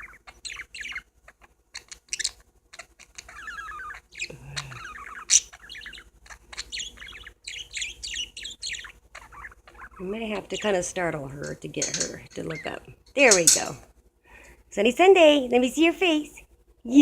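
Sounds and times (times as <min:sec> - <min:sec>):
parakeets chattering: 0:00.0 - 0:13.8.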